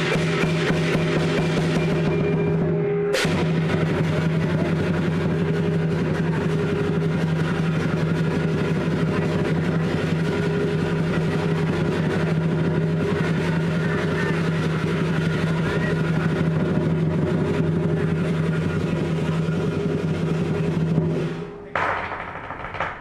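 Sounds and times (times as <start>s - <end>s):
engine humming steadily: 0.0s - 21.5s.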